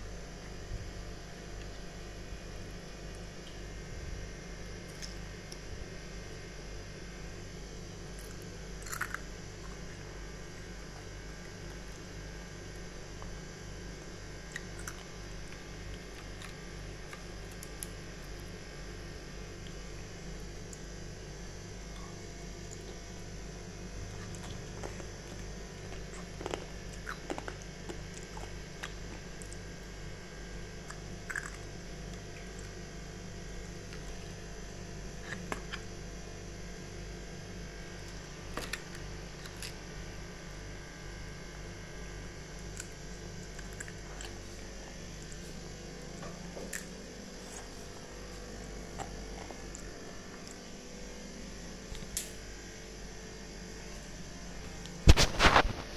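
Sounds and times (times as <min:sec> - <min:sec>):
low mechanical hum: 0:00.0 - 0:55.9.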